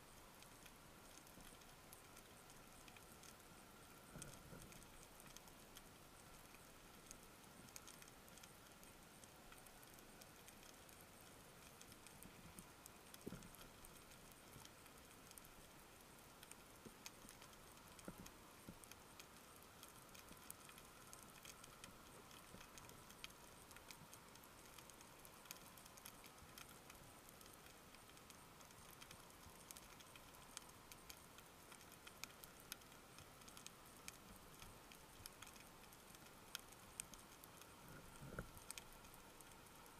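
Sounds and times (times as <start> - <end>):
tiny underwater clicks: 0.0 - 39.9.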